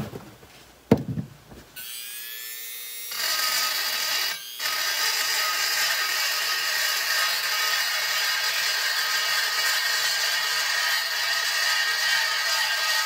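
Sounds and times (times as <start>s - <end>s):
rotary tool grinding metal: 1.8s - 13.0s.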